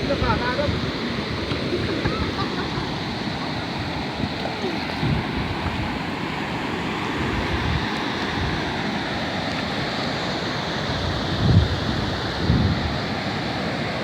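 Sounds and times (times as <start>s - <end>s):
wind buffeting microphone: 0.0s - 6.2s, 7.1s - 9.1s, 10.9s - 14.0s
sea surf washing: 0.0s - 14.0s.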